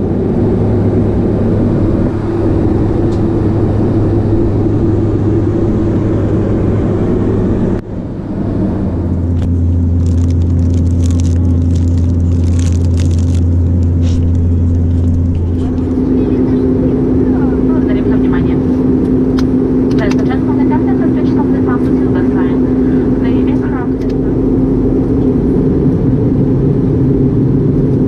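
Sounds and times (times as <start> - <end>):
vehicle engine drone: 0.0 - 28.0.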